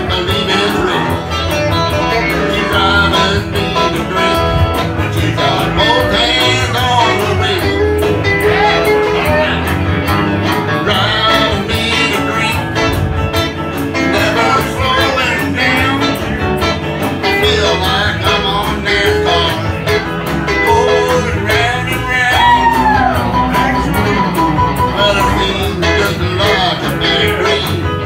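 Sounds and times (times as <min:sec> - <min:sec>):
electric guitars: 0:00.0 - 0:28.0
live country band playing: 0:00.0 - 0:28.0.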